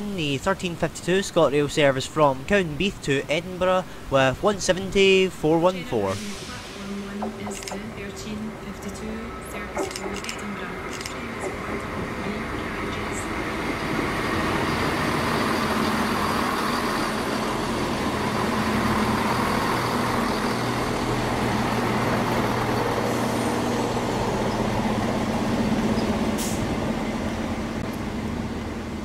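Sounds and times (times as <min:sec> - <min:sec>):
diesel train engine drone: 0:00.0 - 0:29.0.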